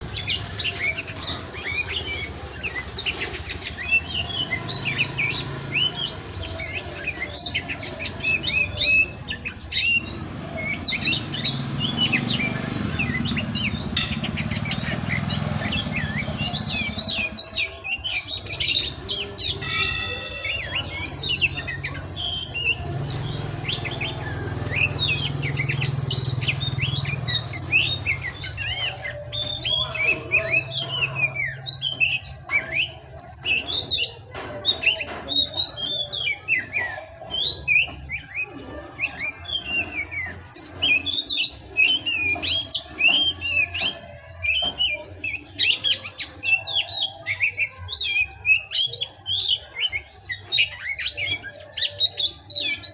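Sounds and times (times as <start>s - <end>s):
bird singing whistles and chirps: 0.0s - 52.9s.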